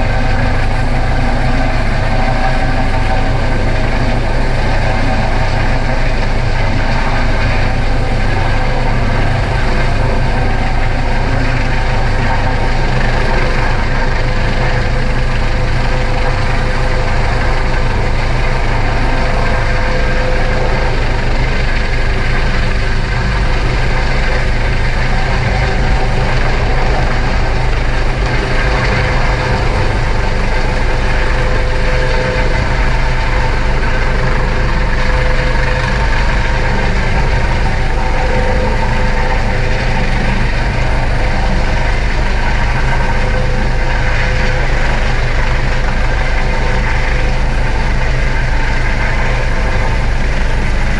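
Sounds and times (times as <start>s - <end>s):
helicopter rotor and turbine: 0.0s - 50.9s.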